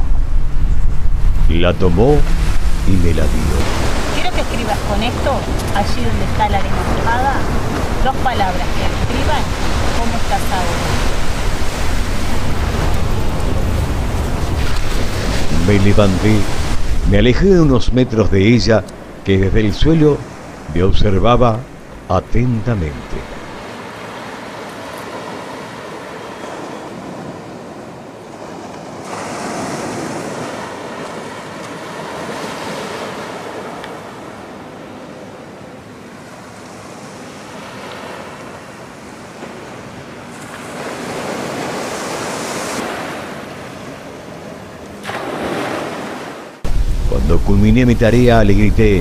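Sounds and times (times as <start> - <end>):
small waves washing on sand: 1.8 - 18.1, 22.7 - 47.1.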